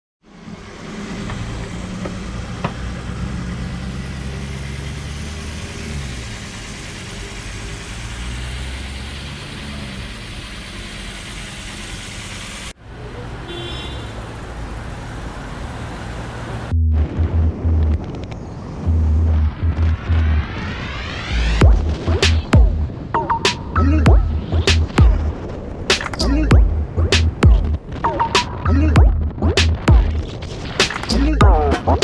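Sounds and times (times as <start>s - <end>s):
wind and road noise: 0.2s - 32.0s.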